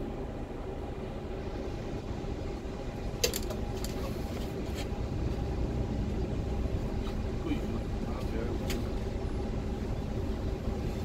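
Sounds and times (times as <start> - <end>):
vehicle engine hum and rumble: 0.0 - 11.0.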